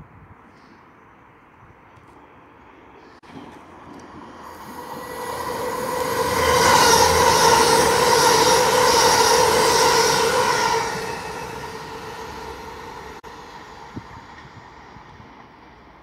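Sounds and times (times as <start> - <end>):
train whine: 2.2 - 16.0
train rushing past: 3.2 - 16.0.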